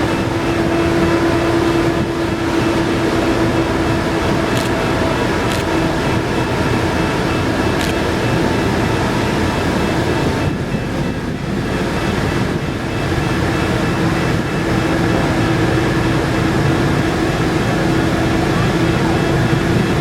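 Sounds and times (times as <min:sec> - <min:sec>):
ferry machinery droning: 0:00.0 - 0:20.0.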